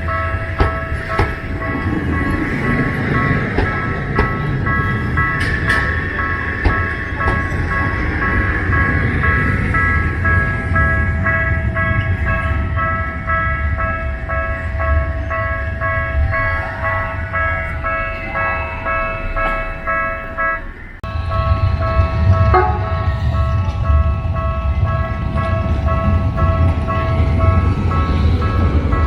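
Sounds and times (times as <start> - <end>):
level crossing alarm clanging: 0.0 - 29.0
street traffic rumble: 0.0 - 29.0.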